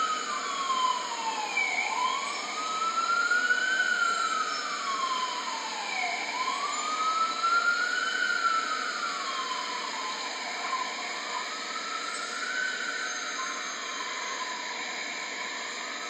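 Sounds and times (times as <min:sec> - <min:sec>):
ambulance siren wailing: 0:00.0 - 0:15.3.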